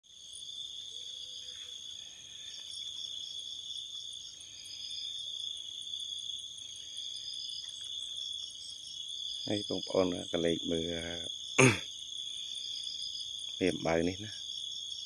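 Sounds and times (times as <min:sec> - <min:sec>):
insects trilling: 0:00.1 - 0:15.0
pulsed insect chirping: 0:00.2 - 0:15.0.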